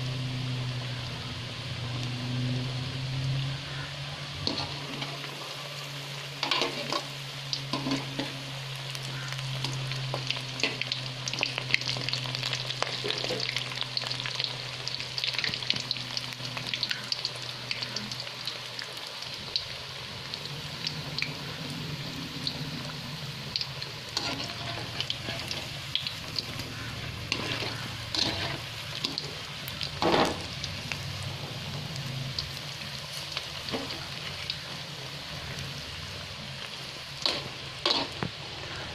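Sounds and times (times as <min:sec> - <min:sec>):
oil sizzling with pops: 0:00.0 - 0:38.9.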